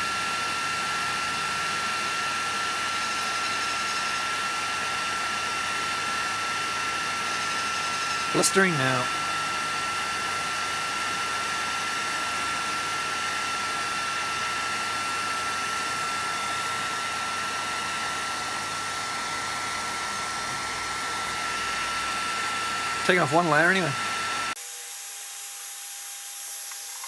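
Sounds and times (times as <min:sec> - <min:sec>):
heat gun fan whining: 0:00.0 - 0:27.0.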